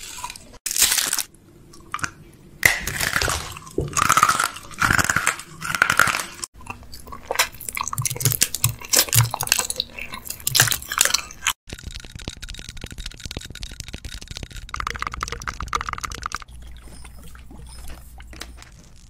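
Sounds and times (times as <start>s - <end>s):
man crunching hard candy: 0.0s - 16.8s
fine crackling chewing: 3.1s - 19.0s.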